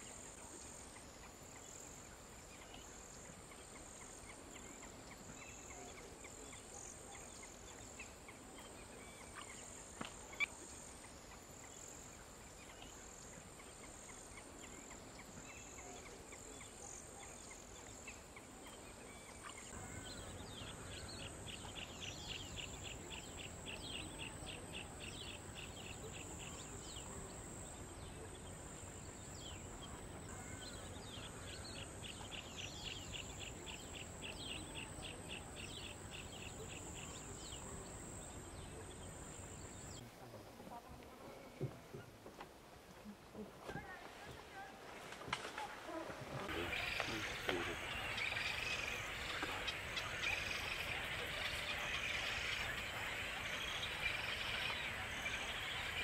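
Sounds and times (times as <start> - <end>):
steady high hiss: 0.0 - 40.6, 44.3 - 56.0.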